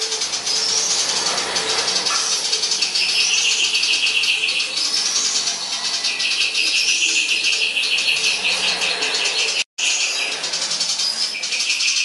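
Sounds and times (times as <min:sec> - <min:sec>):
songbird chattering song: 0:00.0 - 0:12.0.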